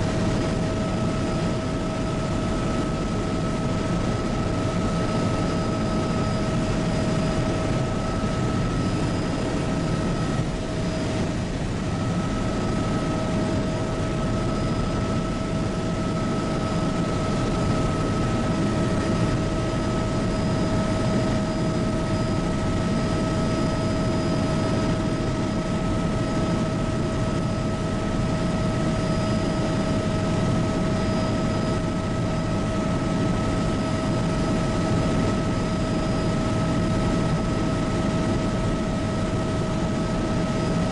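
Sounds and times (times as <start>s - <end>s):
helicopter rotor rumble: 0.0s - 40.9s
helicopter turbine whine: 0.0s - 40.9s.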